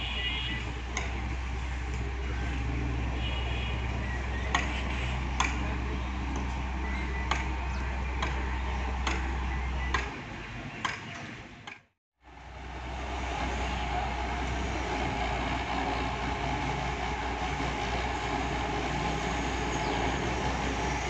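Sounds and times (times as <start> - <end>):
diesel engine droning: 0.0 - 11.6, 12.2 - 21.0.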